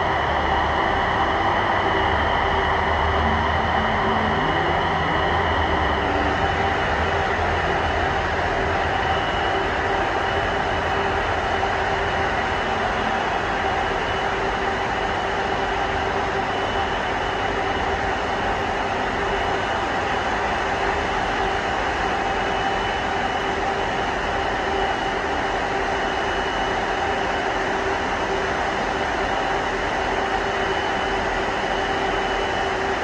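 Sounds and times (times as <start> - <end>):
jet engines idling: 0.0 - 33.0.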